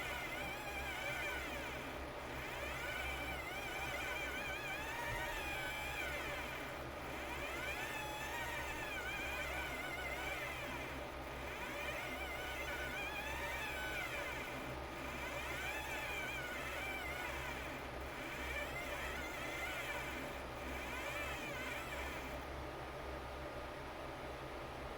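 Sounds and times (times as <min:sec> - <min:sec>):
stepper motors whining: 0:00.0 - 0:22.5
steady low hum: 0:00.0 - 0:24.9.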